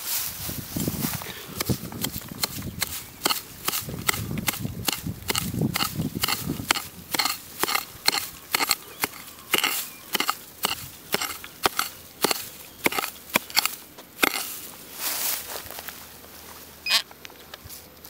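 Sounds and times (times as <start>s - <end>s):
dry grass crunching: 0.0s - 18.0s.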